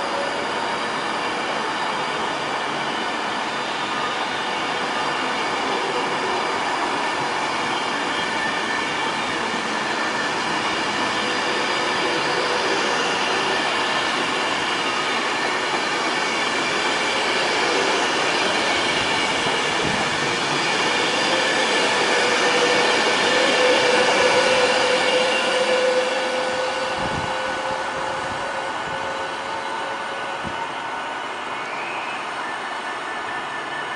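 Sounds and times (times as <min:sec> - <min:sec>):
electric train passing: 0:00.0 - 0:33.9
second train mid tone: 0:00.0 - 0:33.9.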